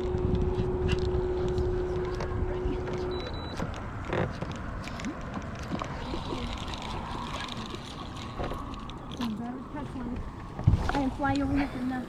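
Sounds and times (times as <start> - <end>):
wind noise on microphone: 0.0 - 11.9
water noise: 0.0 - 12.0.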